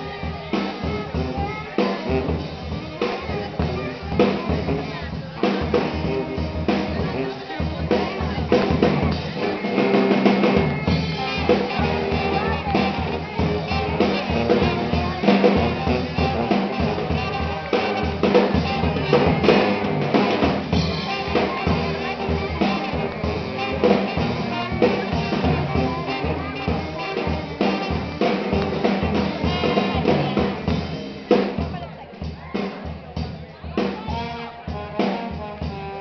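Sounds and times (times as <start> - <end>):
brass band playing: 0.0 - 36.0
drum kit beat: 0.0 - 36.0.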